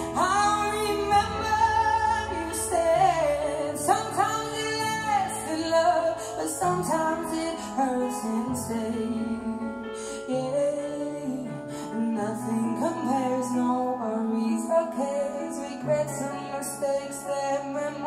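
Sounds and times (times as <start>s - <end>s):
piano: 0.0s - 18.0s
woman singing: 0.0s - 18.0s.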